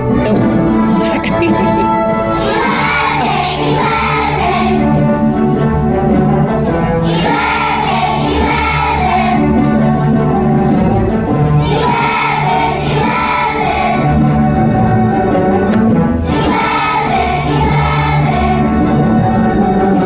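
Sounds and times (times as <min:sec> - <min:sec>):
instrumental accompaniment: 0:00.0 - 0:20.0
children singing in a choir: 0:02.2 - 0:20.0.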